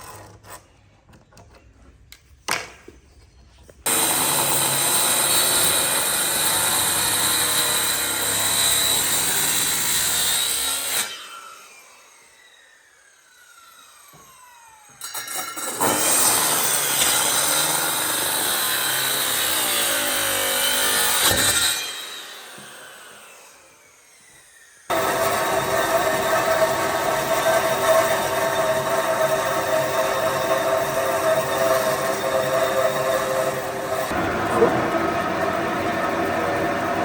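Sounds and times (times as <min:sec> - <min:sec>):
power tool working wood: 0:03.9 - 0:37.0.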